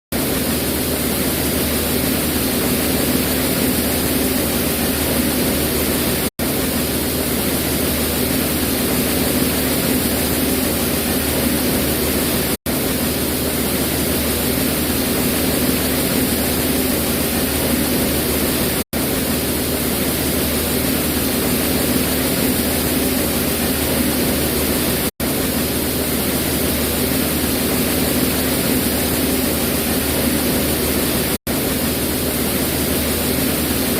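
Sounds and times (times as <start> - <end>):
low machine hum: 0.1 - 33.9.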